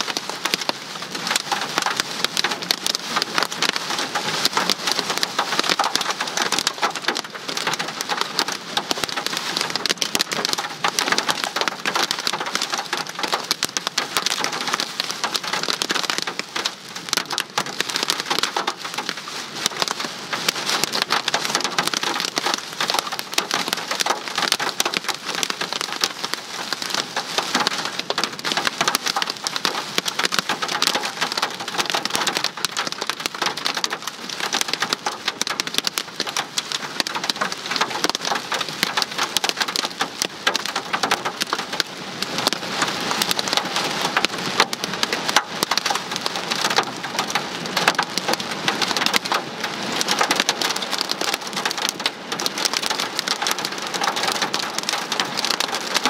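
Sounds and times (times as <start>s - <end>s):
rain and hail on vehicle: 0.0s - 56.0s.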